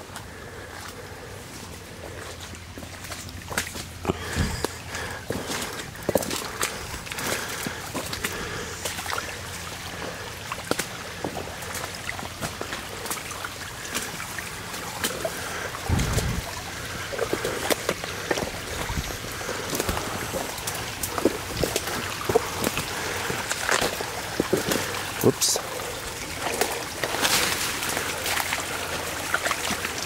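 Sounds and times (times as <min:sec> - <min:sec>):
water trickling down a channel: 0:00.0 - 0:30.0.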